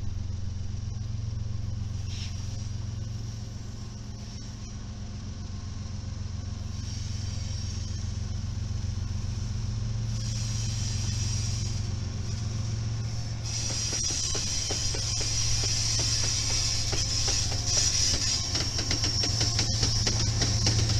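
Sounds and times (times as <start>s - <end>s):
diesel locomotive engine drone: 0.0s - 20.9s
high hiss: 1.9s - 4.7s, 6.6s - 20.9s.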